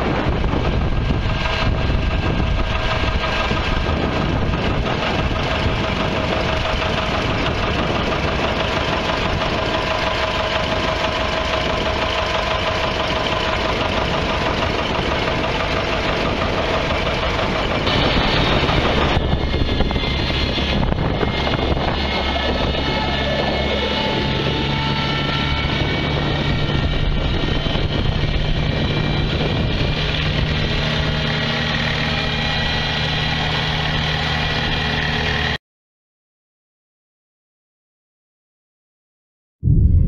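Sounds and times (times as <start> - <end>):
engine idling: 0.0 - 35.6.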